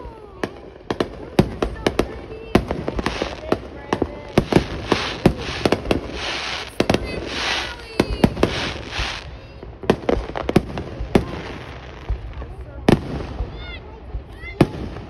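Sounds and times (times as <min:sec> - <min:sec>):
crackling hiss of fireworks: 0:00.0 - 0:15.0
fireworks bursting with sharp bangs: 0:00.0 - 0:15.0.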